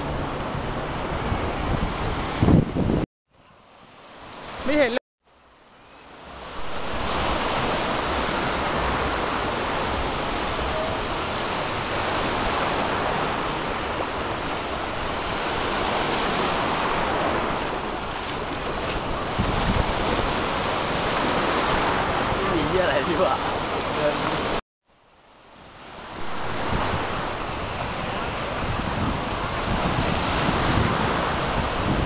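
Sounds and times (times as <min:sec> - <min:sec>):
wind rumbling on microphone: 0:00.0 - 0:03.0, 0:06.2 - 0:24.6, 0:25.5 - 0:32.0
small waves breaking: 0:06.1 - 0:32.0.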